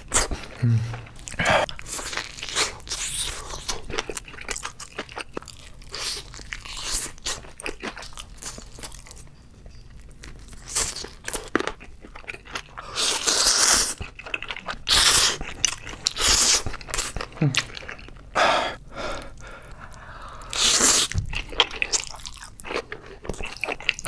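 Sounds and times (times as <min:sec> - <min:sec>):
crunchy food chewing: 0:00.0 - 0:09.3, 0:10.2 - 0:18.4, 0:19.1 - 0:24.0.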